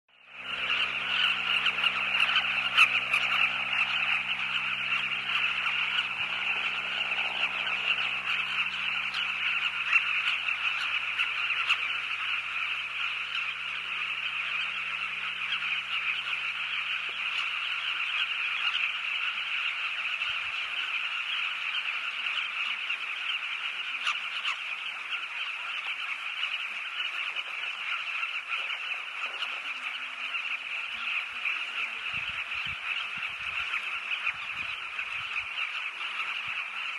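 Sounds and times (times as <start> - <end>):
bee-eaters croaking chorus: 0.1 - 36.9
faint low hum: 0.2 - 36.9.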